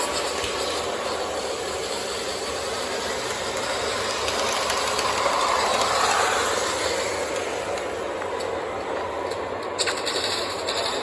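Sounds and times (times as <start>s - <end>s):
model trains running: 0.0s - 11.0s.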